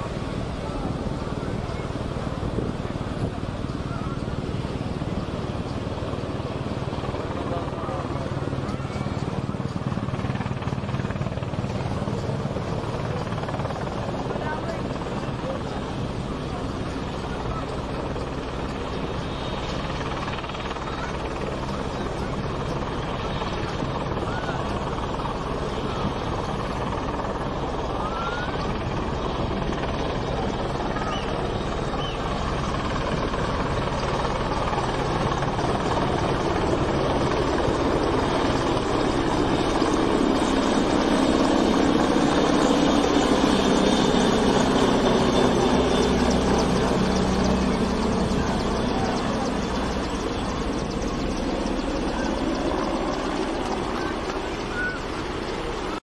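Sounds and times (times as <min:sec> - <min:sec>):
helicopter flying past: 0:00.0 - 0:56.0.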